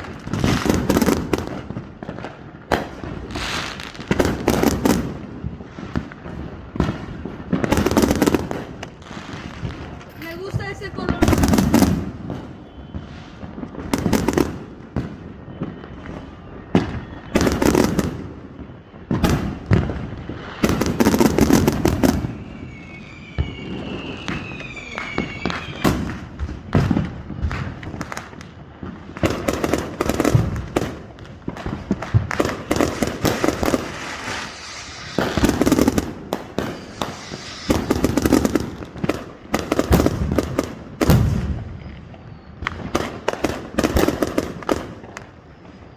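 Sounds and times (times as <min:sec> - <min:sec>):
fireworks bangs and crackles: 0:00.0 - 0:45.9
whistling fireworks: 0:00.0 - 0:45.9.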